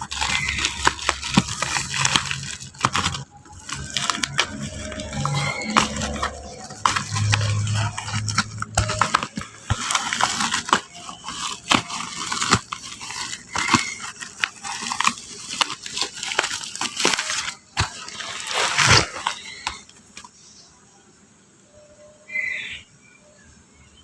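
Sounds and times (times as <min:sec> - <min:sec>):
packaging crinkling and clicking: 0:00.0 - 0:20.3.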